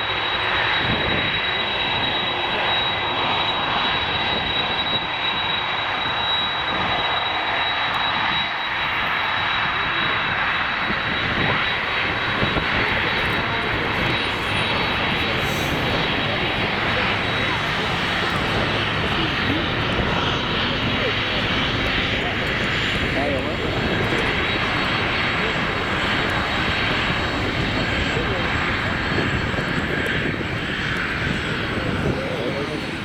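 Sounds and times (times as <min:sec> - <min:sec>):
jet engines running: 0:00.0 - 0:33.0.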